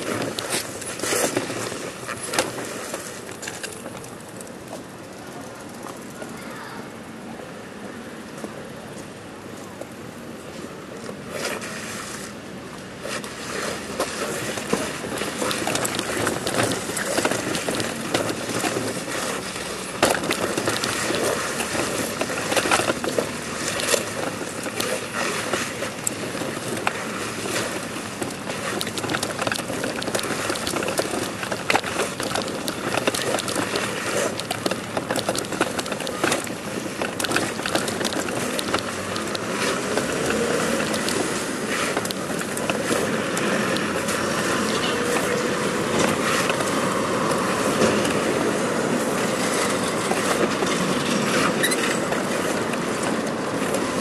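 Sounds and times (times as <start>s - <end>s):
body dragging over stone paving: 0.0s - 6.0s, 8.3s - 54.0s
small irregular clicks: 0.0s - 6.8s, 12.7s - 54.0s.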